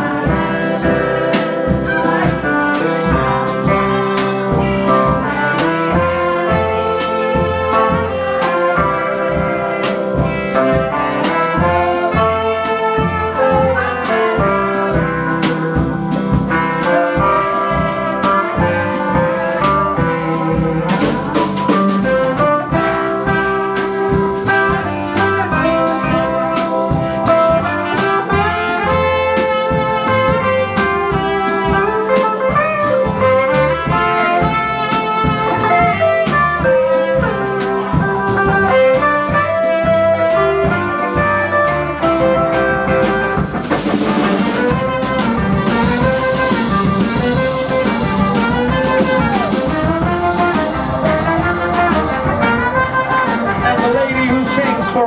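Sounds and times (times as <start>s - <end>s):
drum kit beat: 0.0s - 55.0s
trombone: 0.0s - 55.0s
trumpet: 0.0s - 55.0s.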